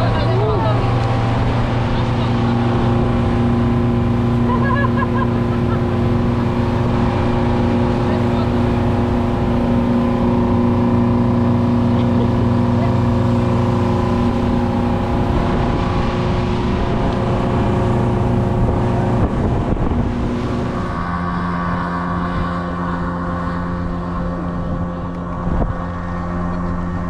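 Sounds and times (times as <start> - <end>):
motorboat engine running: 0.0 - 27.0
wind and water rushing: 0.0 - 27.0.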